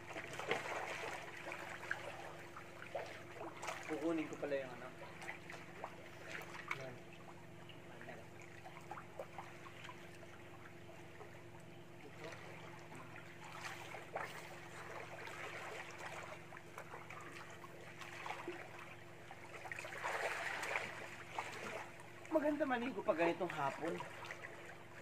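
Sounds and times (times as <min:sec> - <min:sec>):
pool water lapping: 0:00.0 - 0:25.0
small splashes: 0:00.0 - 0:25.0
steady low hum: 0:00.0 - 0:25.0.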